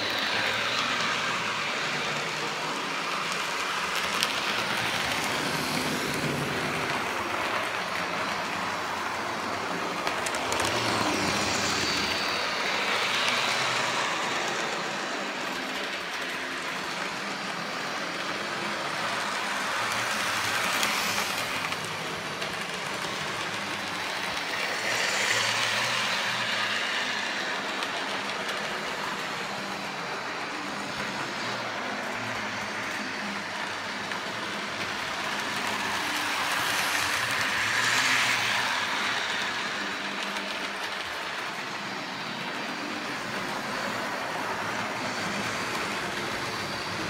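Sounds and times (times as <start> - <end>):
model locomotive whirring on rails: 0.0 - 47.0.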